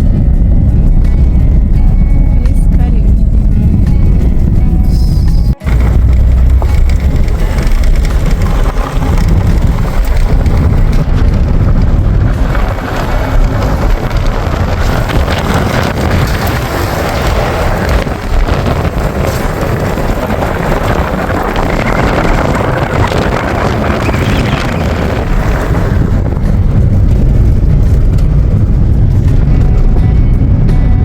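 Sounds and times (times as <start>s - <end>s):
moving car rumble: 0.0s - 31.0s
wind buffeting microphone: 0.0s - 31.0s.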